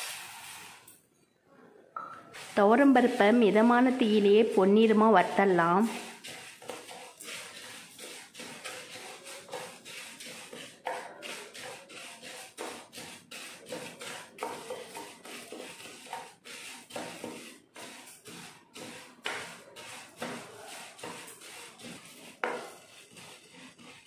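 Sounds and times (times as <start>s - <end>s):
lentils scraping in a pan: 0.0s - 0.8s, 2.3s - 5.0s, 5.6s - 24.0s.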